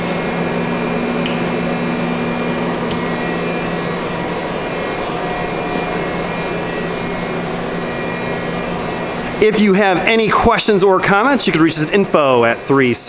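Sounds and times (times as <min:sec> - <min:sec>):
machine motors and pumps humming: 0:00.0 - 0:13.0.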